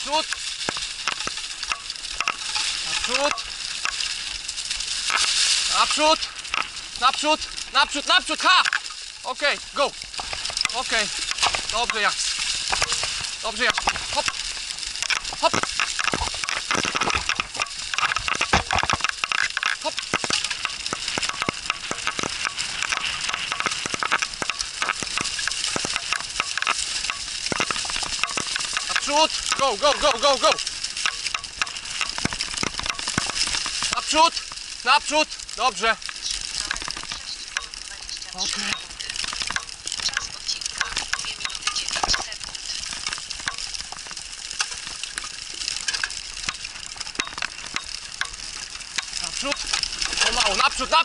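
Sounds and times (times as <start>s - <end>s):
leaves and twigs snapping: 0.0s - 51.0s
wheels and paws on dry leaves: 0.0s - 51.0s.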